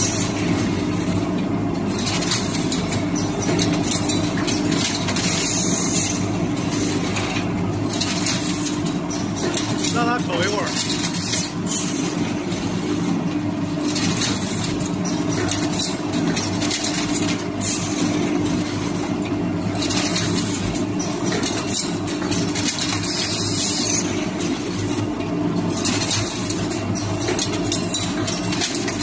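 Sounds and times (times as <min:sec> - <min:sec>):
machinery humming: 0:00.0 - 0:27.2.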